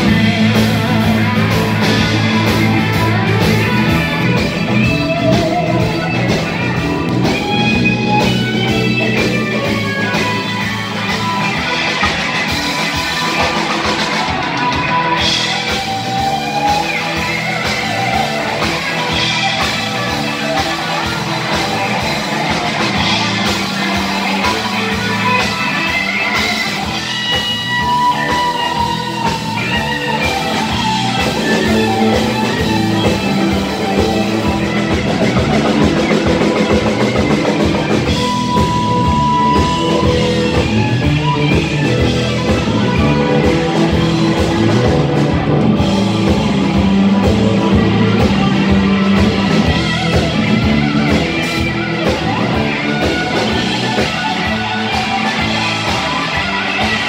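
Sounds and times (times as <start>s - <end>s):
electric guitar lead notes: 0.0s - 57.0s
live blues-rock band playing: 0.0s - 57.0s.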